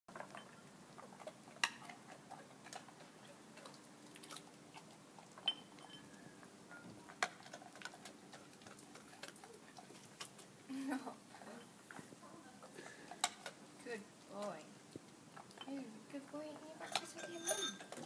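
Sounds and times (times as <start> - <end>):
dog eating from ceramic bowl: 0.1 - 13.8, 14.8 - 18.0.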